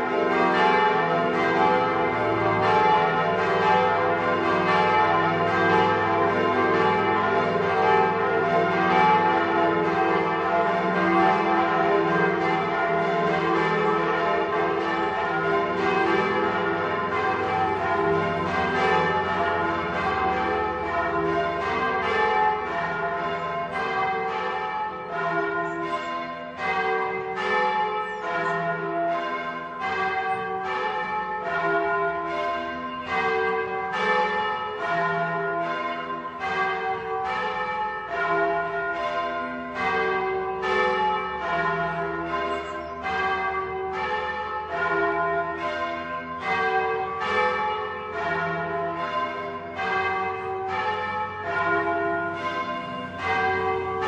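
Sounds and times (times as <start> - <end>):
church bells ringing in sequence: 0.0 - 54.0.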